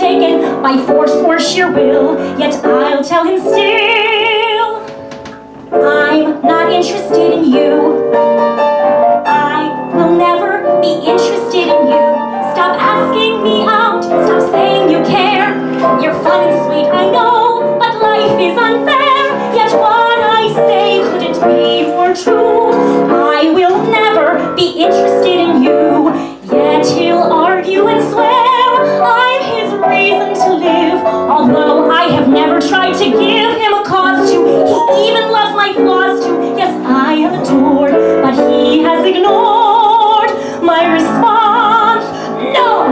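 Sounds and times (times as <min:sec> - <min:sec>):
woman singing into a microphone: 0:00.0 - 0:08.5, 0:09.2 - 0:42.9
piano accompaniment: 0:00.0 - 0:42.9.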